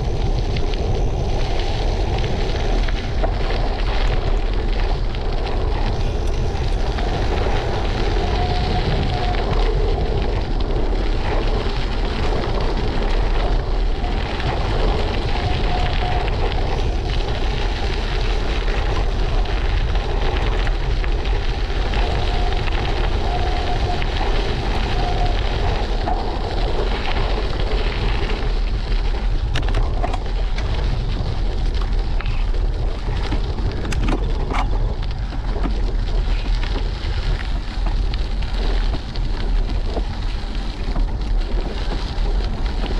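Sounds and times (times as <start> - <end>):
bicycle tyre noise on road: 0.0 - 42.9
faint whine: 0.0 - 42.9
wind buffeting microphone: 0.0 - 42.9.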